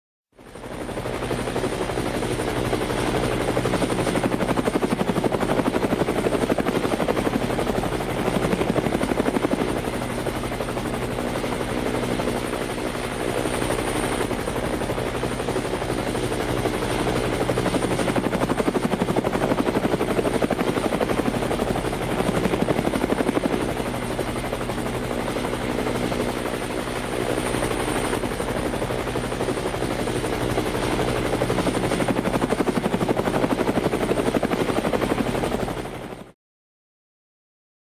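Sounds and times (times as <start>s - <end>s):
helicopter engine hum: 0.4s - 36.4s
helicopter rotor beat: 0.4s - 36.4s.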